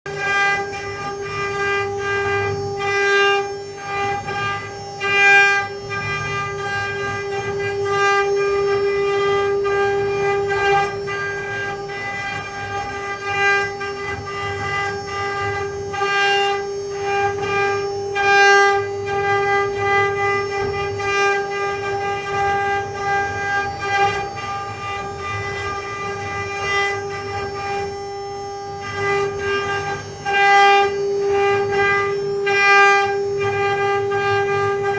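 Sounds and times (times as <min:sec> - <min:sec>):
cnc router spindle whine: 0:00.1 - 0:34.9.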